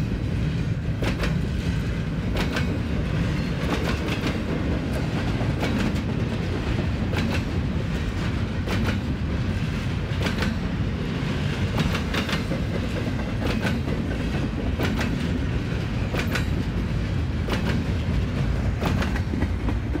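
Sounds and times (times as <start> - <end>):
freight train rumbling past: 0.0 - 20.0
train wheels clacking: 0.0 - 20.0.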